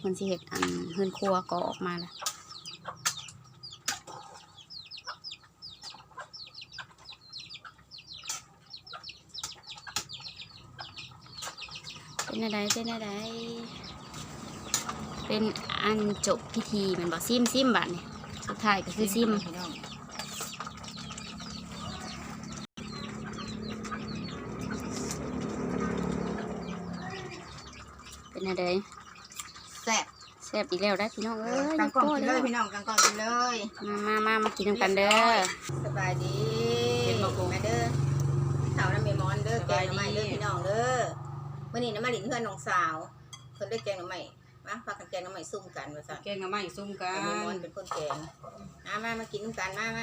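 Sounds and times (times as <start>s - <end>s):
chicks peeping: 0.0s - 40.6s
small birds chirping: 0.0s - 50.0s.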